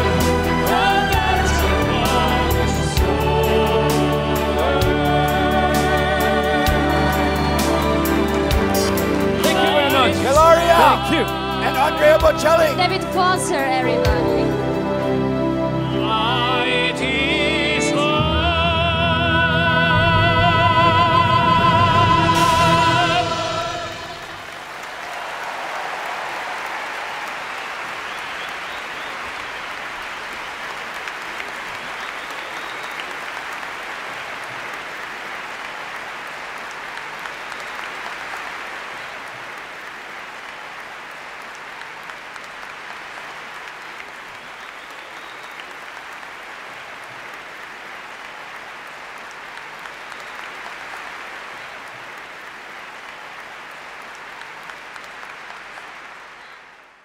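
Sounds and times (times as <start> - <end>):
large audience applauding: 0.0 - 16.6, 20.4 - 57.0.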